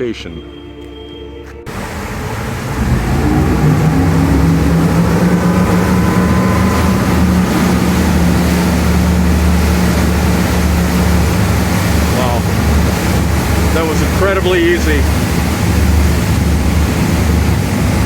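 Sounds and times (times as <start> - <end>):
outboard boat engines running: 1.7 - 18.0
wind and water rushing: 1.7 - 18.0.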